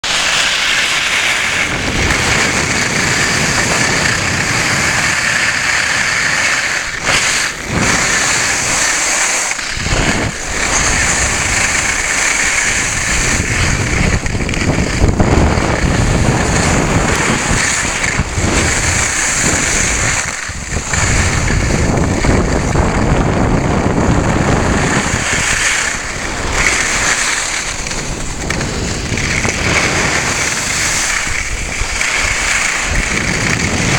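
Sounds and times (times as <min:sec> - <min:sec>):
skis scraping over snow: 0:00.0 - 0:33.9
wind rushing over microphone: 0:00.0 - 0:33.9.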